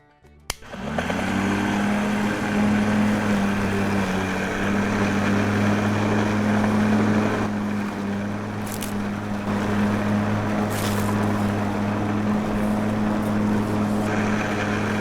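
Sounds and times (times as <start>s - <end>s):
small motor humming: 0.6s - 15.0s.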